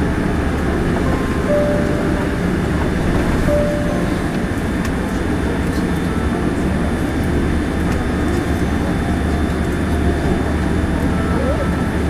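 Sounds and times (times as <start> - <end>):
aircraft cabin rumble taxiing: 0.0 - 12.0.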